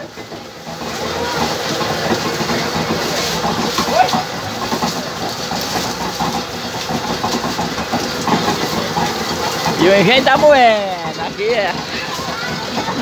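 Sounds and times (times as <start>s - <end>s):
sugarcane mill crushing cane: 0.0s - 13.0s.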